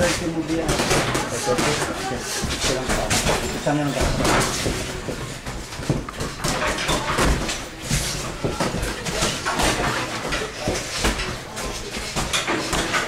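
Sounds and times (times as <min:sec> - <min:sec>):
boxing gloves thudding: 0:00.0 - 0:13.0
footwork: 0:00.0 - 0:13.0
gym background noise: 0:00.0 - 0:13.0.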